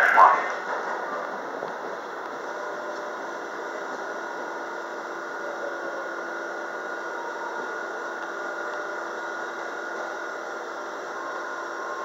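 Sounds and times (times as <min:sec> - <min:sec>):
subway motor whine: 0:00.0 - 0:12.0
subway wheels on rails: 0:00.0 - 0:12.0.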